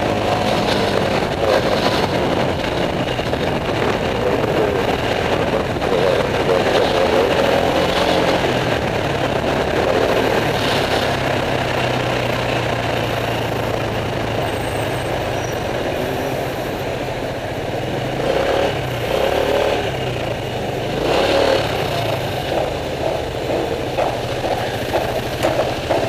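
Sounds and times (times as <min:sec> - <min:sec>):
motorbike engine running: 0:00.0 - 0:26.0
traffic noise: 0:00.0 - 0:26.0.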